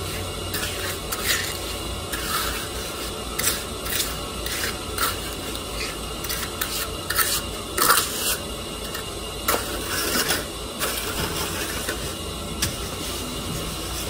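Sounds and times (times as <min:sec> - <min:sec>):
trowel scraping concrete: 0:00.1 - 0:12.1.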